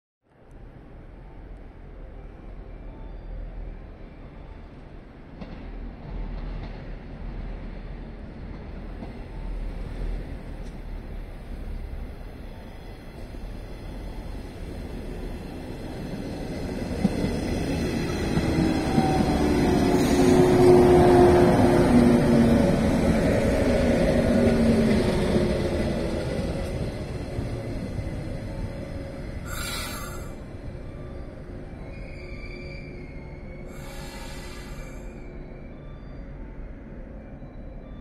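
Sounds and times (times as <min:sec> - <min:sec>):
train wheels on rail: 0:04.7 - 0:35.3.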